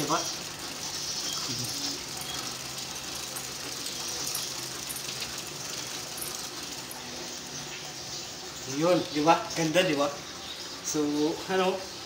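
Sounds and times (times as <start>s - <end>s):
bicycle chain running: 0.0s - 10.1s.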